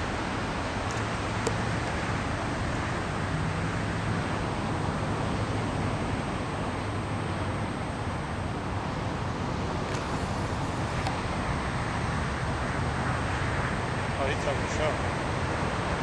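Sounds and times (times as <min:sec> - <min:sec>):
outdoor background roar: 0:00.0 - 0:16.0.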